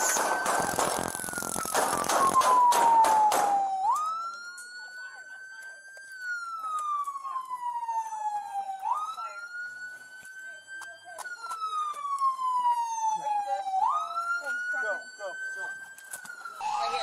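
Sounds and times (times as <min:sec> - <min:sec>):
police siren wailing: 0:00.0 - 0:17.0.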